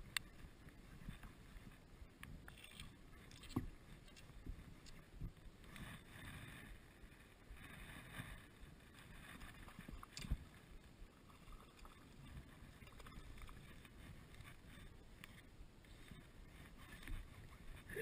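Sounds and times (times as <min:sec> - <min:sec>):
faint water sounds: 0:00.0 - 0:18.0.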